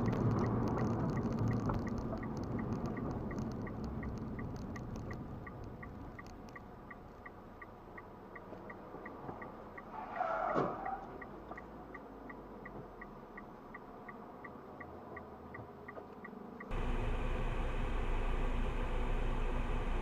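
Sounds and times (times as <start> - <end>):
faint regular ticking: 0.0 - 9.9, 10.8 - 17.1
car engine and road noise: 0.0 - 20.0.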